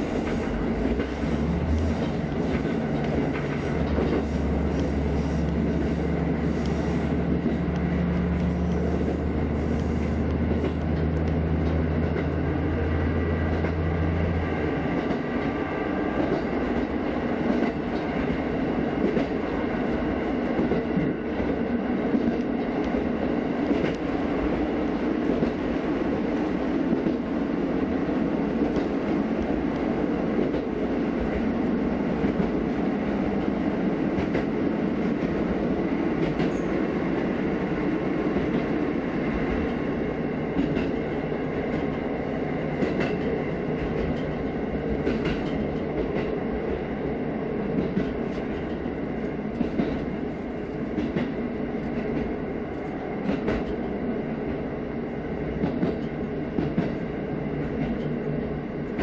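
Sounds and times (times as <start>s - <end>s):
rail joint clicks: 0.0s - 59.0s
railcar engine and wheels rumbling: 0.0s - 59.0s.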